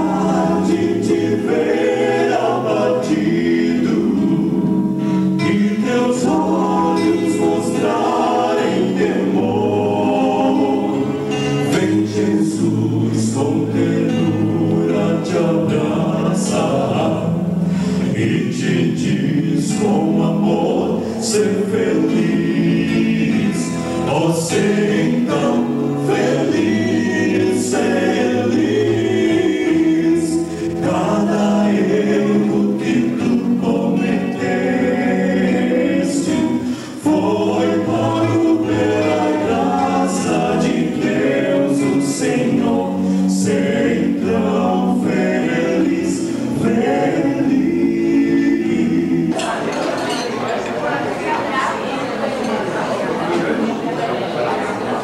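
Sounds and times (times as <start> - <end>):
male vocal quartet singing gospel: 0.0 - 50.5.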